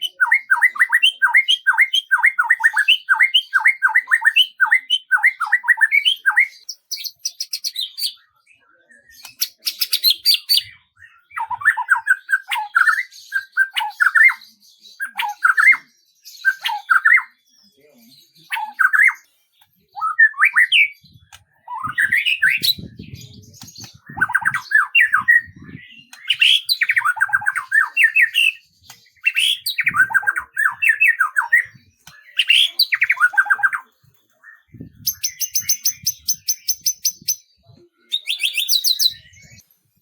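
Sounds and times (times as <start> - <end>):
songbird chirping and trilling: 0.0 - 40.0.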